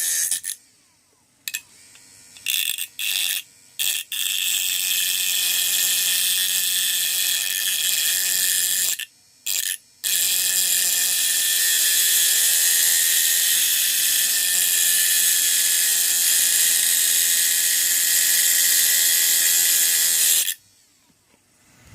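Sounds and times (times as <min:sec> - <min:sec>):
small electric motor whining: 0:01.5 - 0:20.8.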